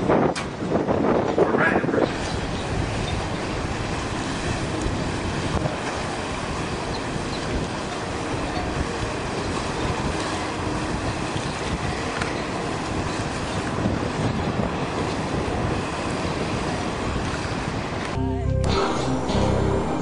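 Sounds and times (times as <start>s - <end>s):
wind buffeting microphone: 0.0s - 18.2s.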